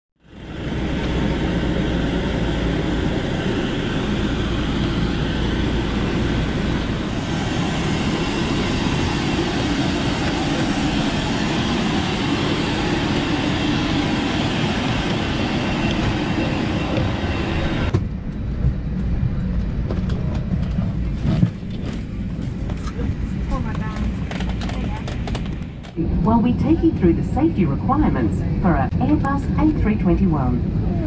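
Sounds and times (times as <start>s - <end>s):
heavy low rumble: 0.2s - 31.0s
jet aircraft and ground equipment: 0.2s - 31.0s.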